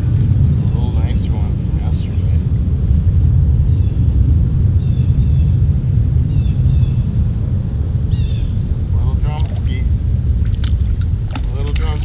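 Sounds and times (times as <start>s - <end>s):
high-pitched whine: 0.0s - 12.0s
low outdoor rumble: 0.0s - 12.0s.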